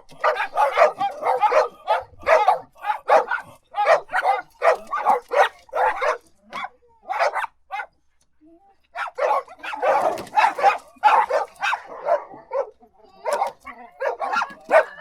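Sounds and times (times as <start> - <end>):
dog barking: 0.1 - 8.0, 9.0 - 15.0.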